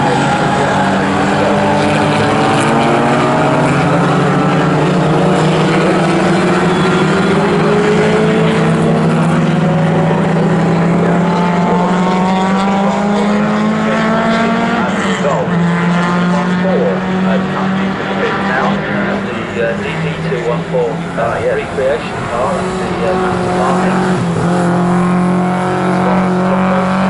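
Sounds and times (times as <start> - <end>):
car accelerating away: 0.0 - 27.0
racing car engines: 0.0 - 27.0.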